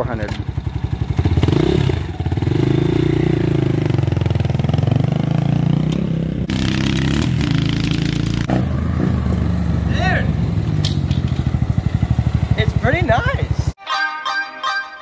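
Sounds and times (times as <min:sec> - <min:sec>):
dirt bike engine revving: 0:00.6 - 0:13.5.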